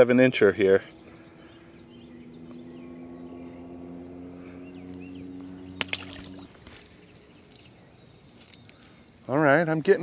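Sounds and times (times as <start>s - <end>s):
distant motor droning: 0.0s - 9.9s
faint bird chirps: 0.4s - 10.0s.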